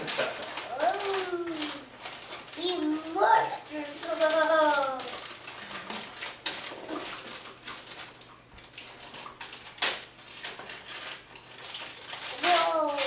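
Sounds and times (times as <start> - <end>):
wrapping paper crinkling and tearing: 0.0 - 13.0.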